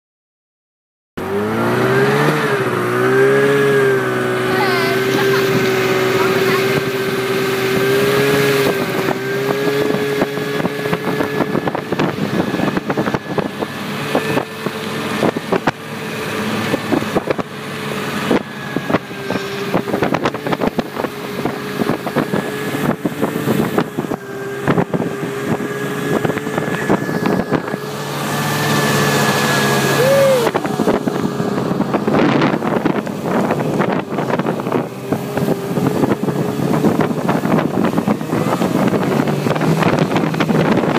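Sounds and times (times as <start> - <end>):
snowmobile engine running: 1.2 - 40.9
wind on microphone: 1.2 - 40.9.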